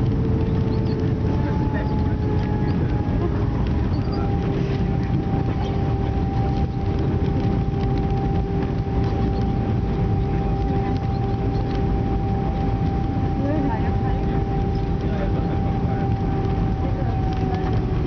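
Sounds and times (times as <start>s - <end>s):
aircraft cabin rumble: 0.0s - 18.0s
steady whine: 0.0s - 18.0s.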